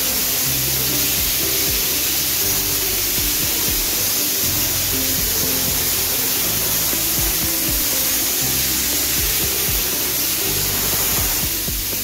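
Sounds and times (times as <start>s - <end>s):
background music: 0.0s - 12.0s
pressure washer spray hissing: 0.0s - 12.0s.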